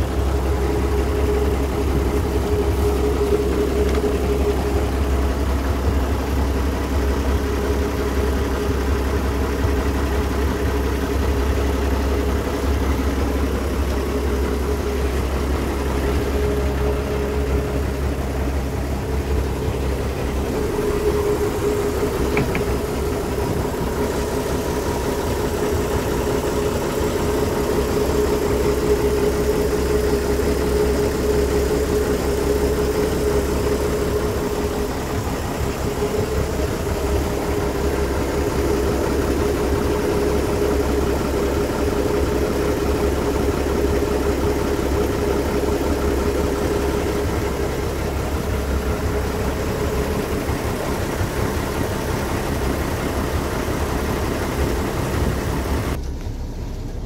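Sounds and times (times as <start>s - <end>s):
diesel engine idling: 0.0s - 57.0s
humming whine: 0.0s - 57.0s.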